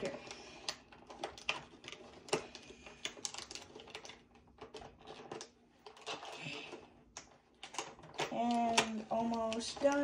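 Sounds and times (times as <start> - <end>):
packaging clicking and crackling: 0.0 - 10.0.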